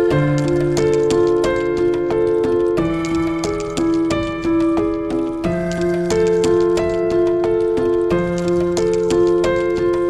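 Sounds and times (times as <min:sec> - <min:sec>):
melodic music with clicking beat: 0:00.0 - 0:10.0.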